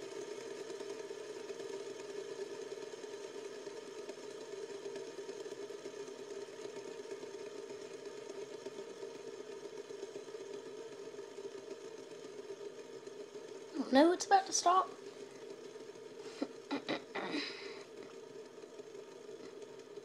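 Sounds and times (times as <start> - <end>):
fidget spinner whirring: 0.0 - 20.0.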